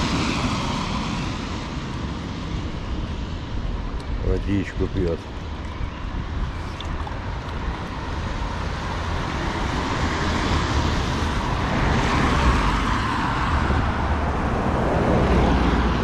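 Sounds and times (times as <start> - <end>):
car engine and tyre noise: 0.0 - 16.0.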